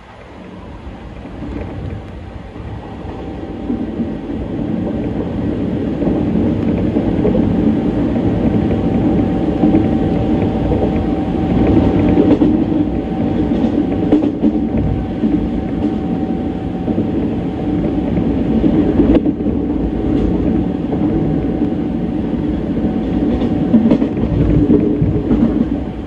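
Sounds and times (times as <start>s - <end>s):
electric train running rumble: 0.0s - 26.0s.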